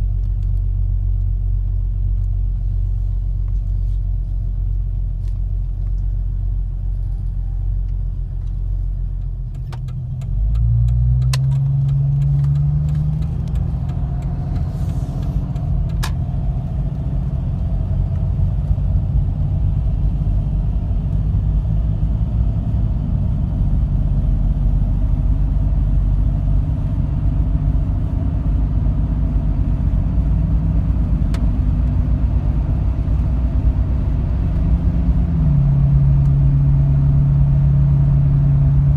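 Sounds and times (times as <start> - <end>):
car exhaust deep rumble: 0.0 - 38.9.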